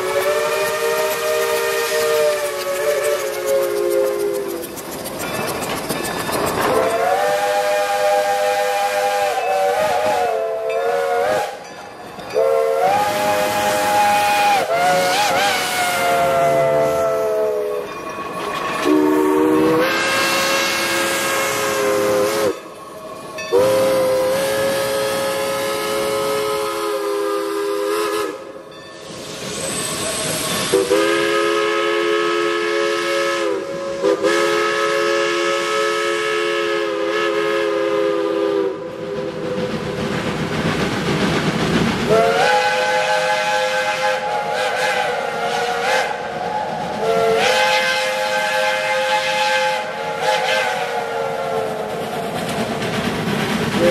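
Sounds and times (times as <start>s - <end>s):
steam locomotive chime whistle: 0.0s - 39.5s, 42.1s - 51.9s
steam hissing: 0.0s - 53.9s.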